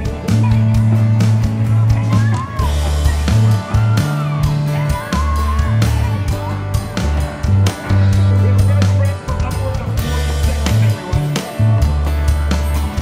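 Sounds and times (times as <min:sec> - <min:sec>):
bass line: 0:00.0 - 0:13.0
drum beat: 0:00.0 - 0:13.0.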